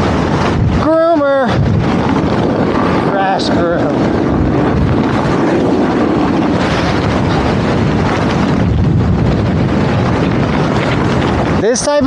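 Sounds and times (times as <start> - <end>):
snowboard sliding over snow: 0.0 - 12.0
wind buffeting microphone: 0.0 - 12.0.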